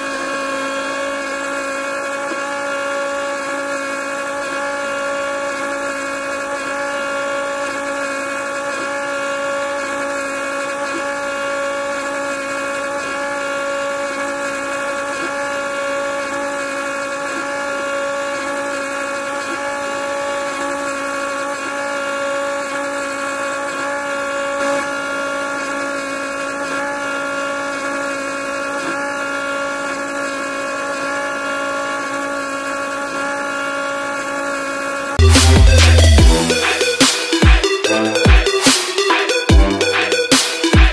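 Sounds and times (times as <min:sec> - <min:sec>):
small motor whining: 0:00.0 - 0:40.9.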